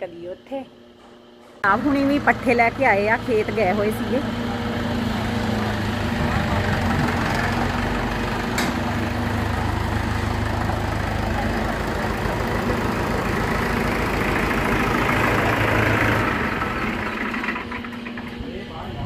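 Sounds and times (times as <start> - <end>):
tractor engine running: 1.6 - 19.0.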